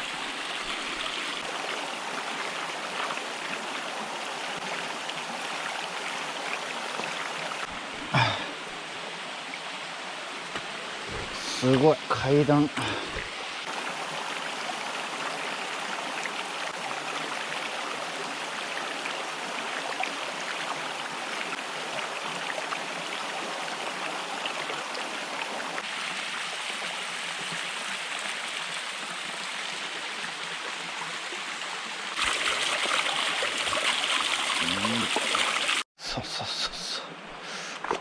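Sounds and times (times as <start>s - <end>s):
stream flowing over rocks: 0.0s - 35.9s.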